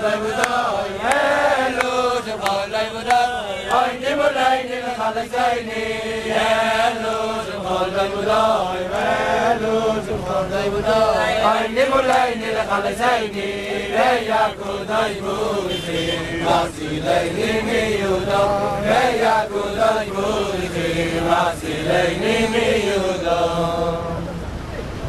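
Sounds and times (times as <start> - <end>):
men singing together: 0.0 - 24.4.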